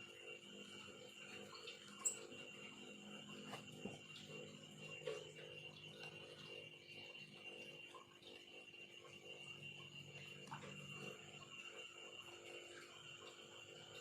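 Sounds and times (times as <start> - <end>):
faint steady hum and whine: 0.0 - 14.0.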